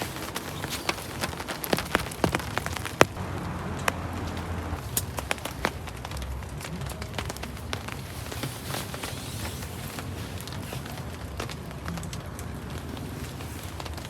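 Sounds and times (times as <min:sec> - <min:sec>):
rain falling: 0:00.0 - 0:14.0
raindrops tapping a surface: 0:00.0 - 0:14.0.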